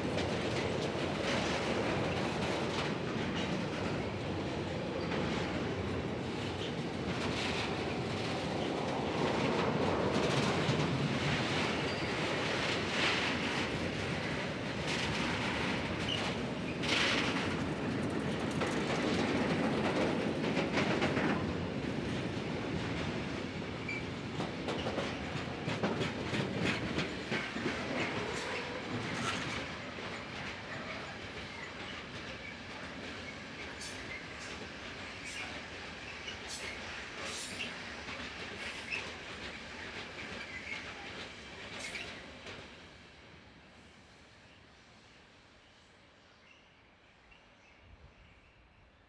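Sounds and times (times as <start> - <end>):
freight train rolling past: 0.0 - 45.1.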